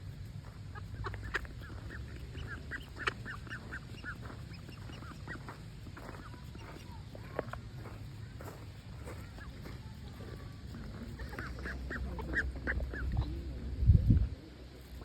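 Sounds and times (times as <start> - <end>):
ducks quacking: 0.0 - 13.5.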